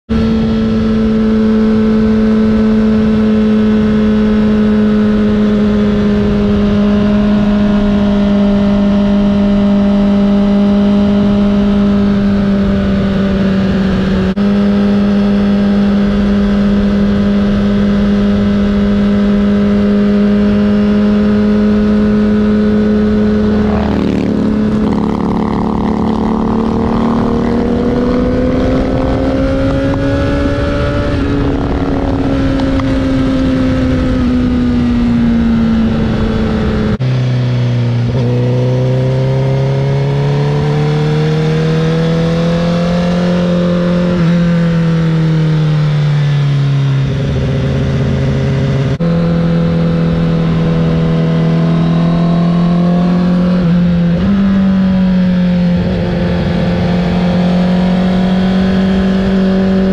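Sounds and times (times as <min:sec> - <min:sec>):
motorcycle engine running: 0:00.1 - 0:59.9.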